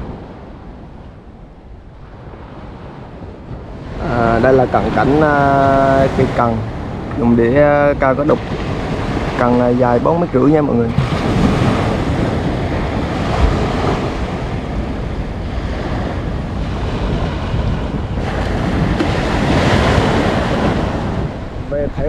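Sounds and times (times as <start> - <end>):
small waves breaking on beach: 0.0 - 22.0
wind buffeting microphone: 0.0 - 22.0.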